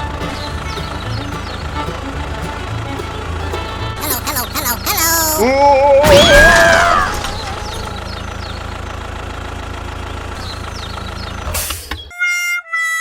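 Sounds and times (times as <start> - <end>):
tractor engine drone: 0.0 - 12.1.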